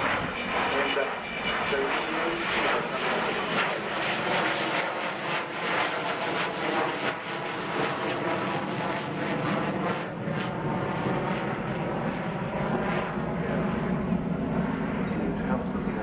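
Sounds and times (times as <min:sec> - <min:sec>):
jet plane flying overhead: 0:00.0 - 0:16.0.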